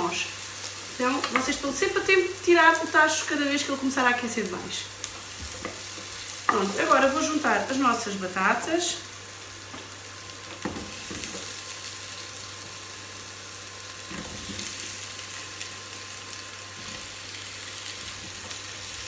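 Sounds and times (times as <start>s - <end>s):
potatoes sizzling in a pot: 0.0s - 19.0s.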